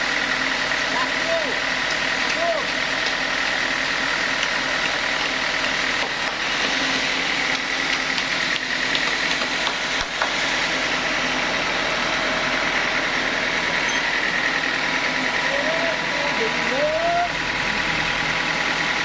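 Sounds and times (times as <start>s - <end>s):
sawmill machinery drone and whine: 0.0s - 19.0s.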